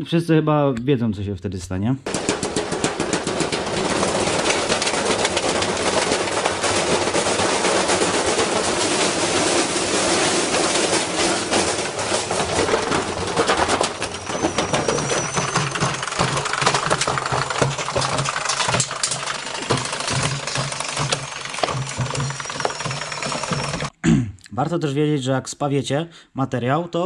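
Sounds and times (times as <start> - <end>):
washing machine drum banging: 2.1 - 23.9.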